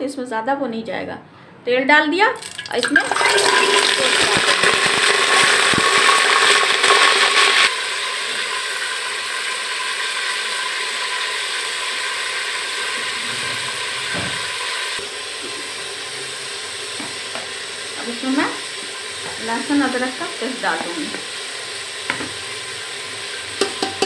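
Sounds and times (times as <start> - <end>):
meat sizzling in hot oil: 2.4 - 24.0.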